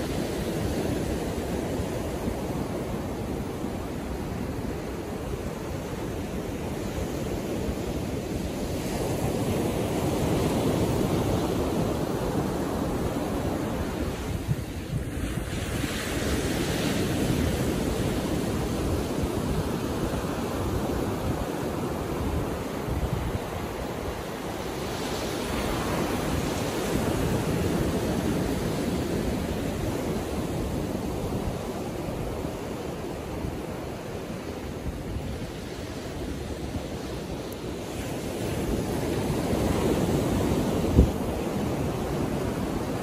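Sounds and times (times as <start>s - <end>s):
ocean surf breaking on beach: 0.0s - 43.0s.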